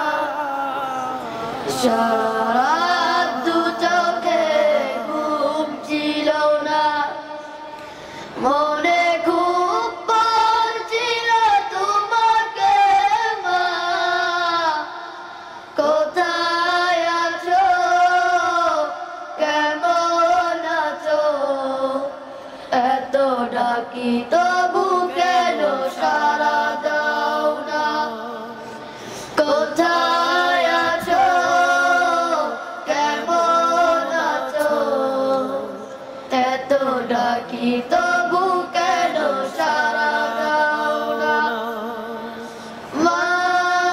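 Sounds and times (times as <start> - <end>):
boys singing together: 0.0 - 7.8, 8.4 - 43.9.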